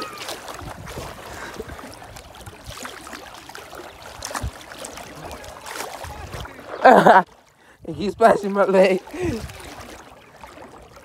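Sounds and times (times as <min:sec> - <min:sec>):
water splashing around legs: 0:00.0 - 0:07.6, 0:08.3 - 0:11.0.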